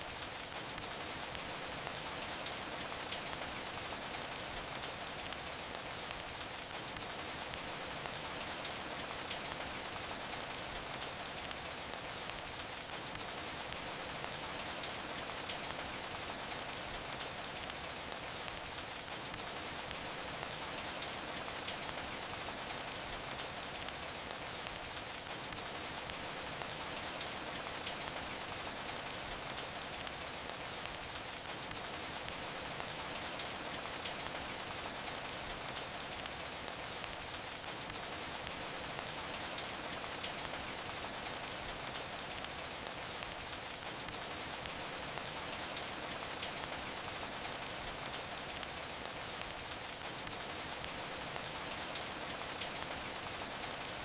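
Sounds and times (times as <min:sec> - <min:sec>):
rain falling: 0:00.0 - 0:54.0
wood fire crackling: 0:00.0 - 0:54.0.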